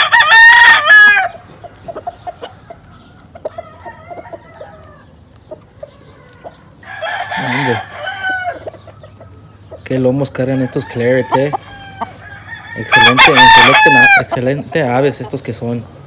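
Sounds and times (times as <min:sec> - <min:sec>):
roosters clucking and crowing: 0:00.0 - 0:16.0.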